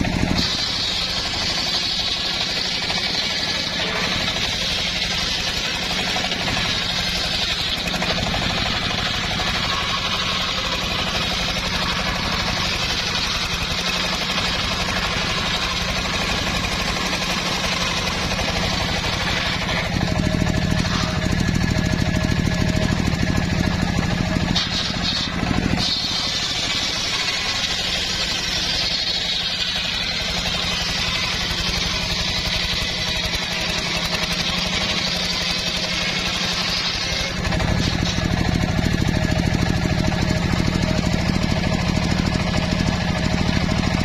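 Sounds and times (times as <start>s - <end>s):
circular sawmill cutting log: 0.0s - 44.0s.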